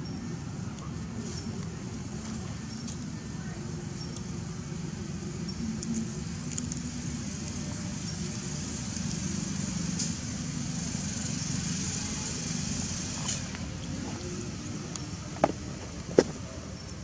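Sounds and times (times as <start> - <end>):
constant high hiss: 0.0 - 17.0.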